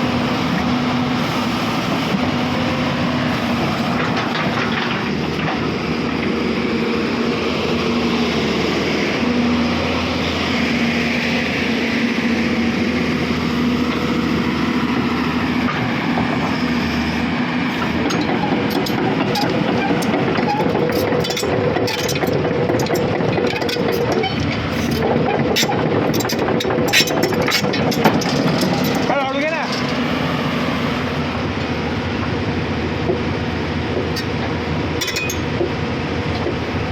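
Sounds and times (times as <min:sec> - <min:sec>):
excavator engine drone: 0:00.0 - 0:36.9.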